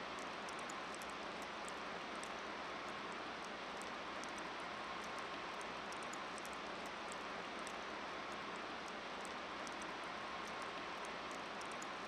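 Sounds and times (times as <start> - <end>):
faint high ticks: 0.0 - 12.0
steady outdoor hiss: 0.0 - 12.0.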